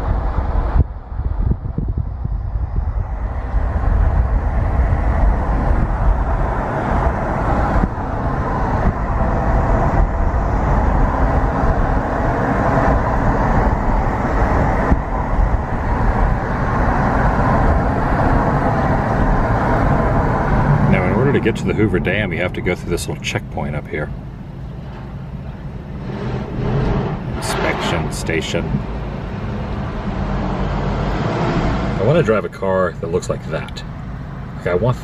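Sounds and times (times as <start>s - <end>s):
car interior road and engine noise: 0.0s - 35.0s.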